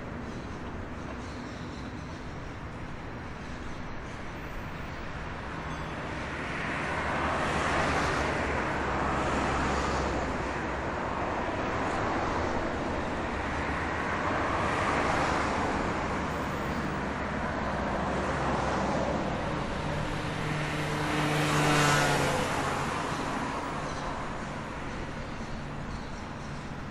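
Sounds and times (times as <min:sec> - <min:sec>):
passing cars: 0:00.0 - 0:26.9.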